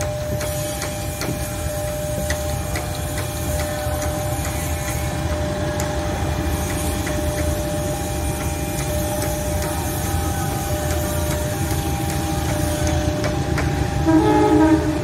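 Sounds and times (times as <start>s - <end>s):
locomotive engine rumble: 0.0s - 15.0s.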